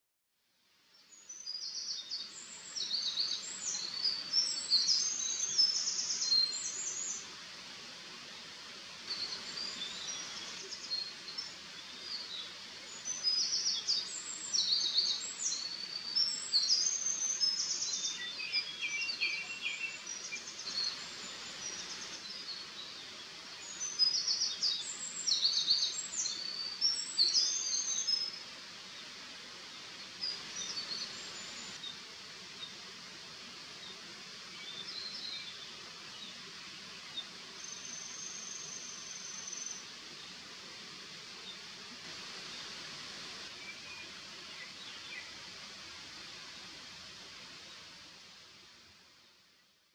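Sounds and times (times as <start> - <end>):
steady background hiss: 0.4 - 49.9.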